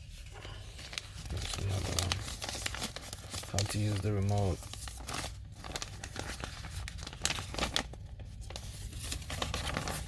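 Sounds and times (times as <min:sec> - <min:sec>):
pages turning: 0:00.0 - 0:10.0
paper rustling and crinkling: 0:00.0 - 0:10.0.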